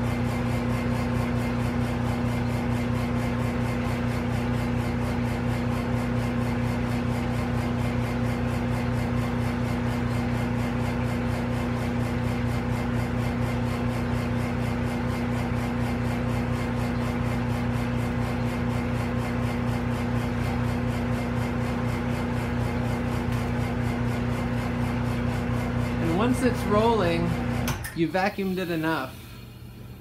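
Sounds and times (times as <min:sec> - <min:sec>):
vacuum pump humming: 0:00.0 - 0:30.0.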